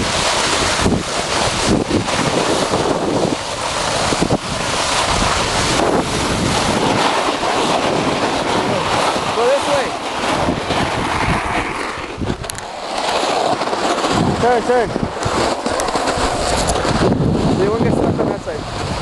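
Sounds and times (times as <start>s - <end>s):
wind roaring over microphone: 0.0s - 19.0s.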